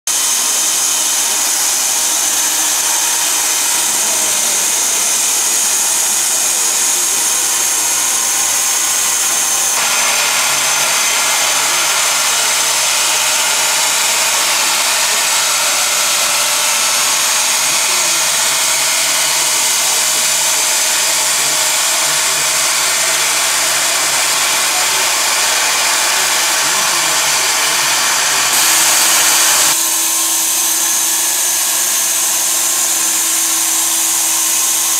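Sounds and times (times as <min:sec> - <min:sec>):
band sawmill cutting log: 0:00.1 - 0:34.9.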